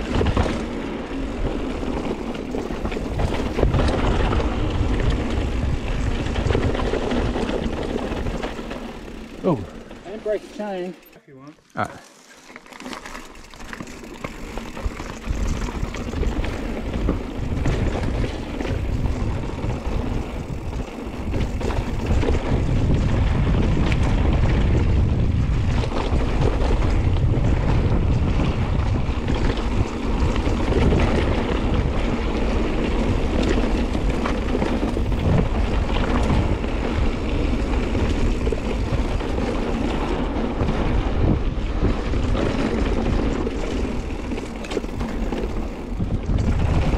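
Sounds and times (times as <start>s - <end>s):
wind rushing over microphone: 0.0s - 9.7s, 14.2s - 46.9s
bike rattling over bumps: 0.0s - 11.1s, 12.0s - 46.9s
bike tyre noise on dirt: 0.0s - 46.9s.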